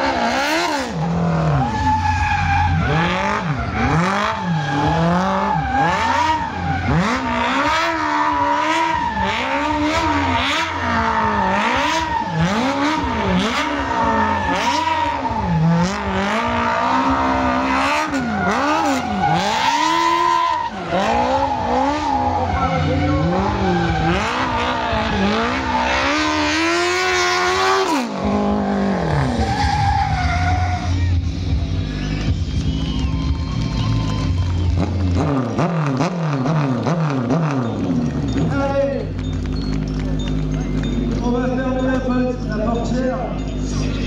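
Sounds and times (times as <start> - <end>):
car engine revving: 0.0 - 44.0
high tyre squeal: 0.0 - 44.0.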